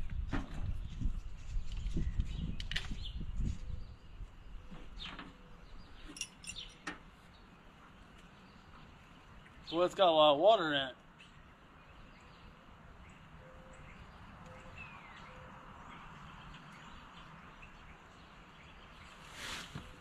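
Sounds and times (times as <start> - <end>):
distant bird chirps: 1.7 - 19.8.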